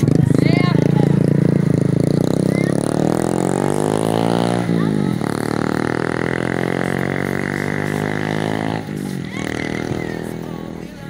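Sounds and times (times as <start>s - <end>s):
motorcycle engine passing: 0.0s - 11.0s.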